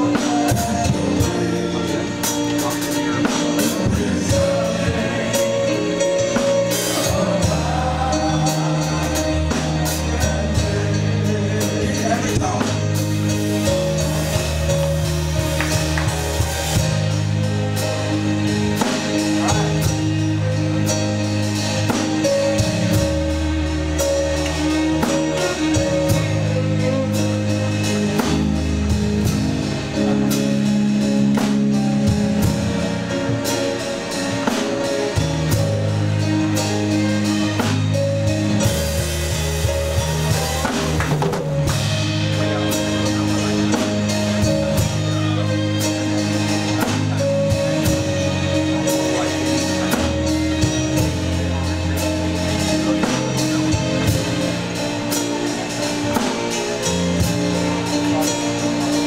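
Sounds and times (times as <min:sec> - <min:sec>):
drum kit beat: 0:00.0 - 0:59.0
instrumental worship music: 0:00.0 - 0:59.0.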